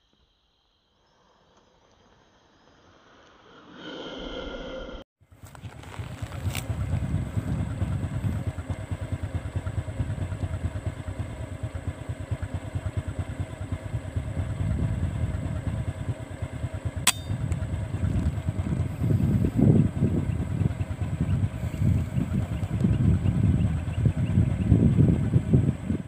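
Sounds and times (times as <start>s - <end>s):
low pulsing rumble: 4.2s - 26.0s.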